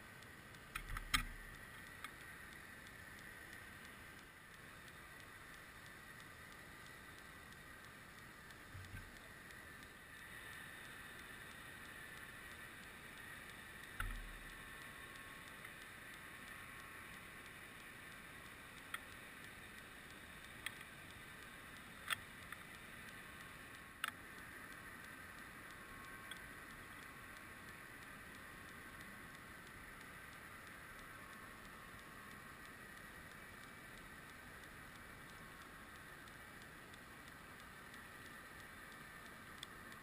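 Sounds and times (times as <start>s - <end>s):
sharp clicks: 0.2s - 40.0s.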